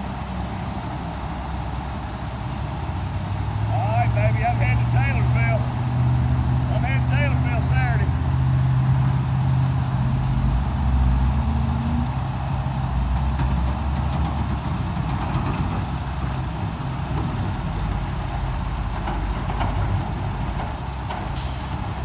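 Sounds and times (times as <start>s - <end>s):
low traffic rumble: 0.0s - 22.0s
truck engine hum: 0.0s - 22.0s.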